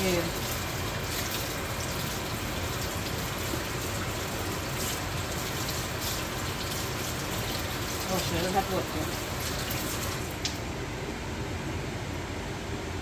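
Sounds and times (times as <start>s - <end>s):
faucet water splashing in sink: 0.0s - 10.6s.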